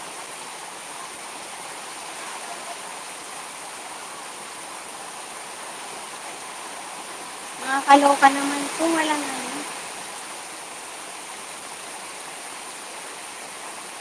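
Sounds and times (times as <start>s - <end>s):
heavy rain on wet pavement: 0.0s - 14.0s.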